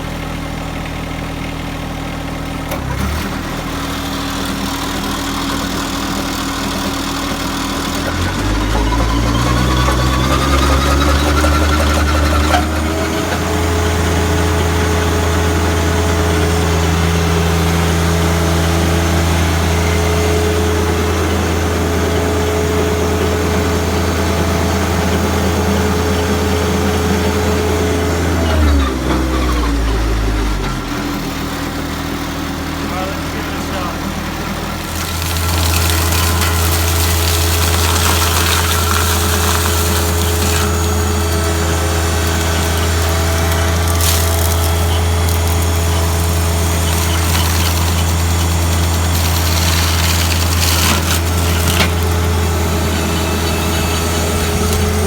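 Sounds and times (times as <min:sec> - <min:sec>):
stump grinder whine: 0:00.0 - 0:55.0
tractor engine running: 0:00.0 - 0:55.0.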